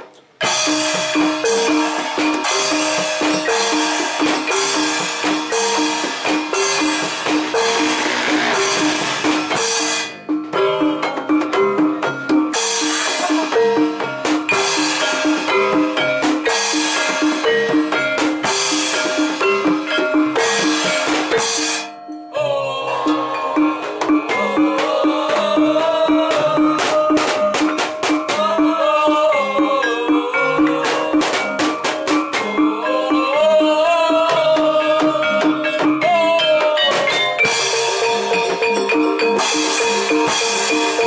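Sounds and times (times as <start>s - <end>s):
gamelan drums and metallophones: 0.0s - 41.0s.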